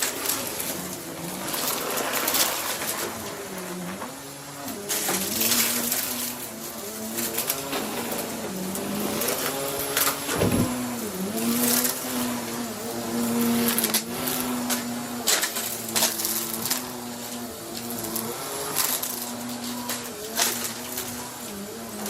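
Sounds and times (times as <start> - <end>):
debris rattling through vacuum: 0.0 - 22.0
vacuum cleaner motor humming: 0.0 - 22.0.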